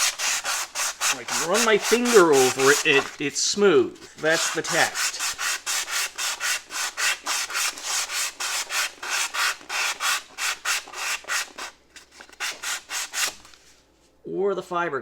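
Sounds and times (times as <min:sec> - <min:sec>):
sandpaper sanding strokes: 0:00.0 - 0:13.5.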